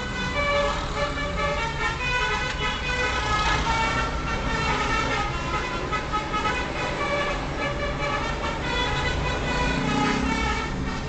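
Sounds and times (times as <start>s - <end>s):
bus musical horn tune: 0.0s - 11.0s
engine and road rumble: 0.0s - 11.0s.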